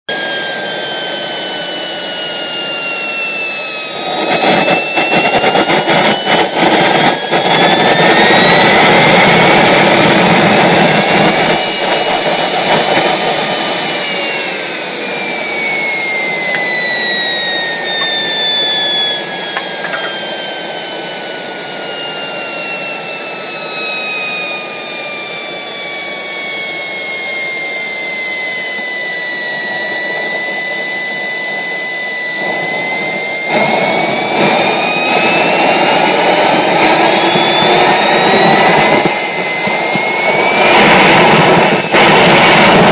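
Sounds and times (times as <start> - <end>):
jet turbine whine: 0.1 - 42.9.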